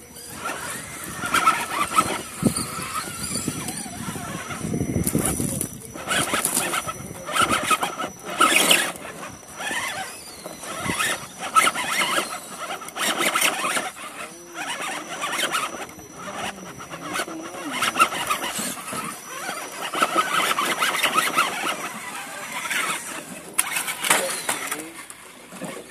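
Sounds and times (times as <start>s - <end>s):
rc car motor whining: 0.0s - 25.9s
tyres grinding on rock: 0.0s - 25.9s
toy car clattering off rock: 0.2s - 25.9s.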